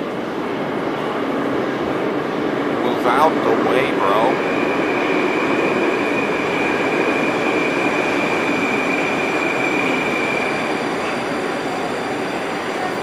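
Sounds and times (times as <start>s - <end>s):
metro train wheels rumbling on rails: 0.0s - 13.0s.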